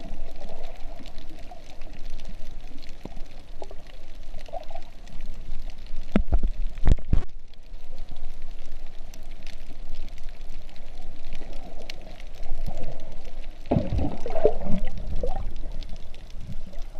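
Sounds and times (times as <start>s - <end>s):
bubbling gurgle: 0.0s - 7.4s, 8.2s - 16.9s
muffled underwater rumble: 0.0s - 16.9s.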